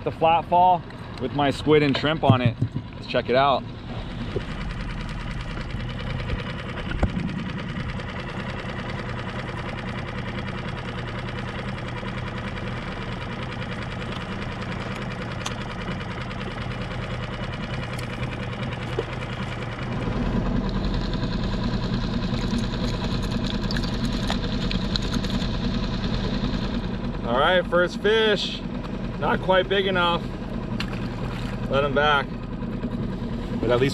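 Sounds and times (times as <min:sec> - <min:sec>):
outboard motor chugging: 0:00.0 - 0:33.9.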